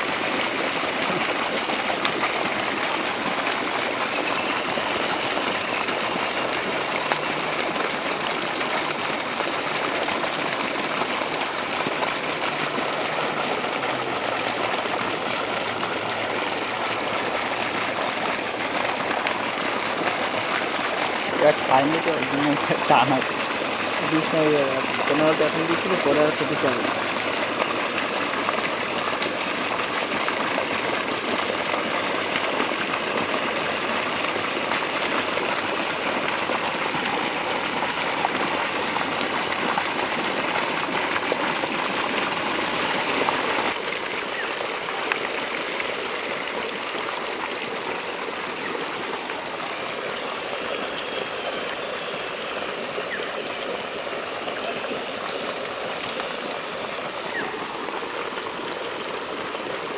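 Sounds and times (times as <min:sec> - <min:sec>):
water splashing into pond: 0:00.0 - 0:59.9.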